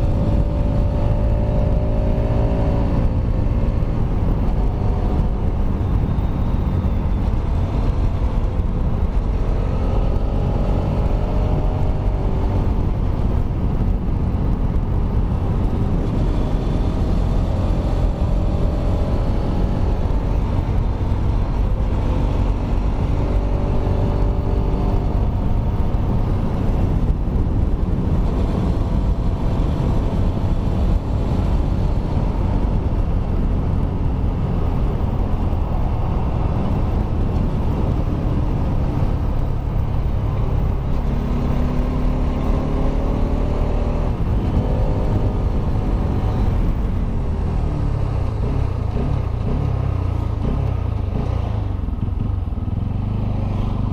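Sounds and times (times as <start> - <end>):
low wind rumble: 0.0 - 53.9
motorcycle engine running: 0.0 - 53.9.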